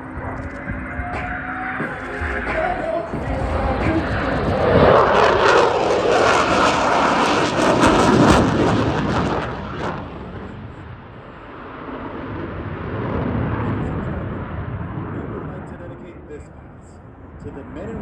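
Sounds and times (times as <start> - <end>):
jet passing with crackling roar: 0.0 - 18.0.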